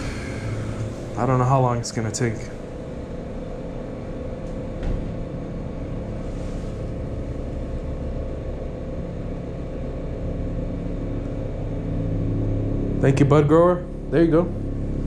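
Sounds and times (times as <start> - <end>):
faint continuous hum: 0.0 - 15.0
low rumble: 0.0 - 15.0.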